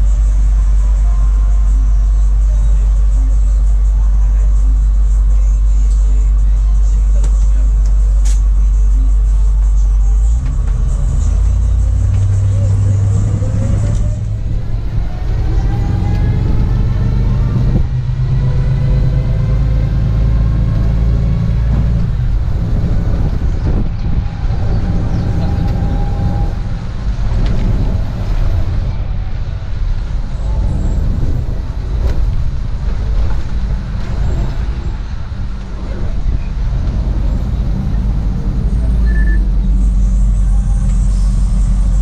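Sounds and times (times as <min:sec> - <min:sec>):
road noise: 0:00.0 - 0:42.0
vehicle engine rumbling: 0:00.0 - 0:42.0.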